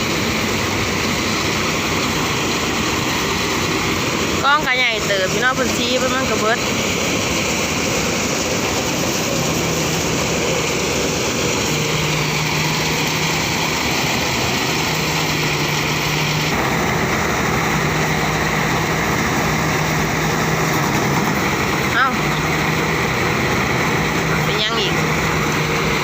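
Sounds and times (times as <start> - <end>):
threshing machine running: 0.0 - 26.0.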